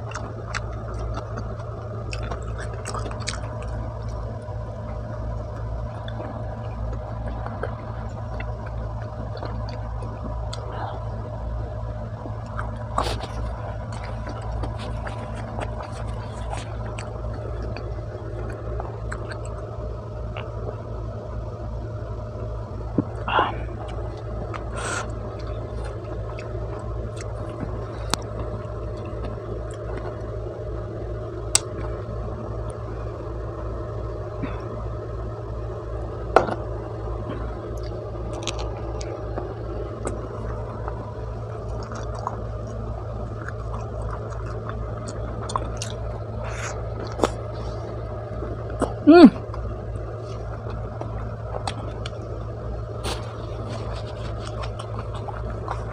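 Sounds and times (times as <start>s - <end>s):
chewing: 0.0s - 20.7s, 23.0s - 30.6s, 36.5s - 55.9s
low hum: 0.0s - 55.9s.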